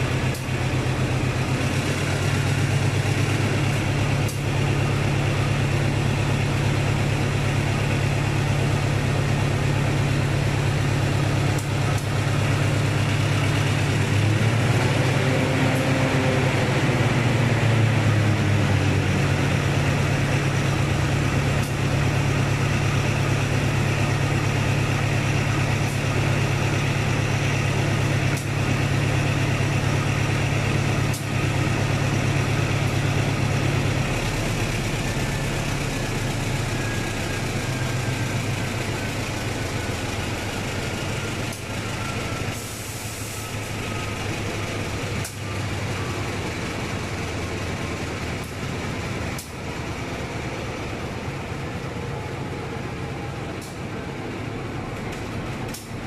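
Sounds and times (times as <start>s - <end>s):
locomotive engine idling: 0.0s - 14.5s, 15.7s - 56.0s.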